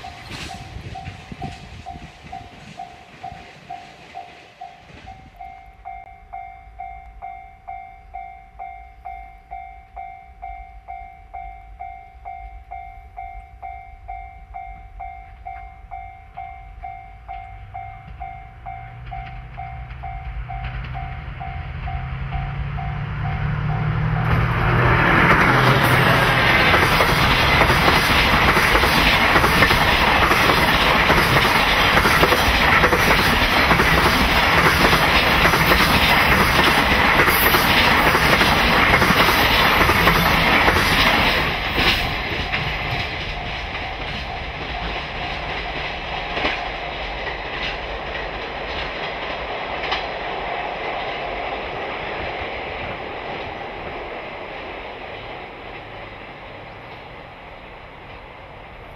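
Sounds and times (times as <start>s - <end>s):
train wheels clattering: 0.0s - 6.0s, 15.3s - 57.2s.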